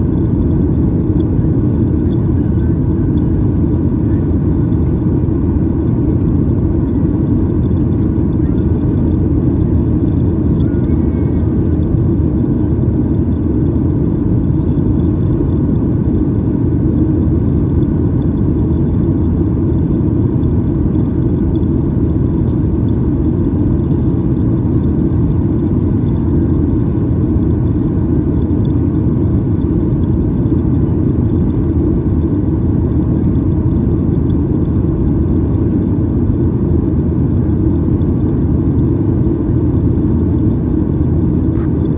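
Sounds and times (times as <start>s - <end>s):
airplane cabin roar: 0.0s - 41.9s
faint high whine: 0.0s - 41.9s.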